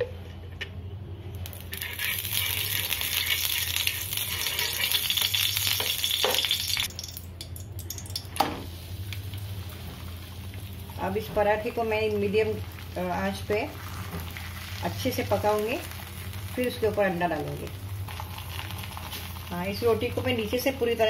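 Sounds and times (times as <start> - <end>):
ghee sizzling on a hot pan: 1.4 - 7.1, 8.6 - 21.0.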